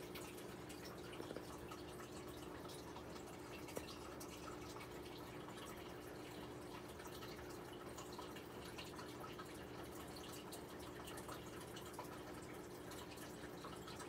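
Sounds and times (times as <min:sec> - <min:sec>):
water bubbling and dripping: 0:00.0 - 0:14.0.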